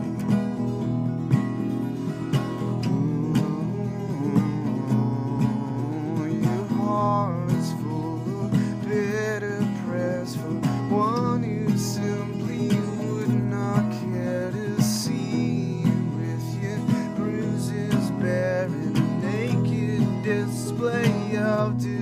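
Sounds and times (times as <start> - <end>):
acoustic guitar strumming: 0.0 - 22.0
man singing wordless melody: 0.0 - 22.0.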